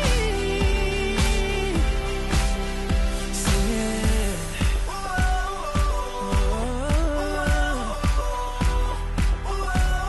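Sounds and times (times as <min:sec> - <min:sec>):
pop-style music with steady beat: 0:00.0 - 0:10.0.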